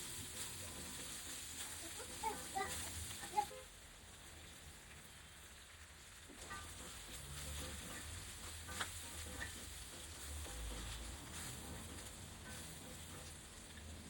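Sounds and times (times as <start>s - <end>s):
okra sizzling in a pan: 0.0s - 14.0s.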